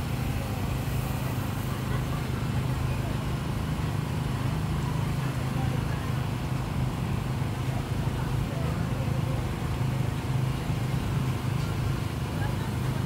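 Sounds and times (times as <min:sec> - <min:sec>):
chatter of voices: 0:00.0 - 0:13.0.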